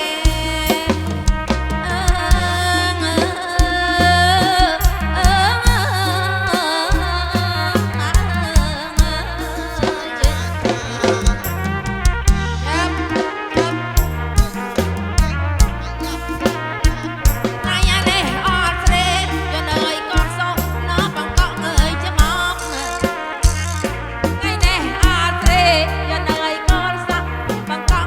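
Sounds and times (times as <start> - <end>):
drum beat with heavy bass: 0.0 - 28.0
folk band through loud speakers: 0.0 - 28.0.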